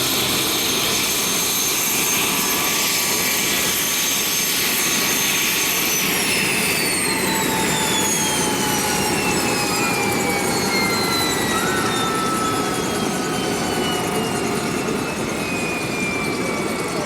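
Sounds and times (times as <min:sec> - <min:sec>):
helicopter turbine whine falling: 0:00.0 - 0:17.0.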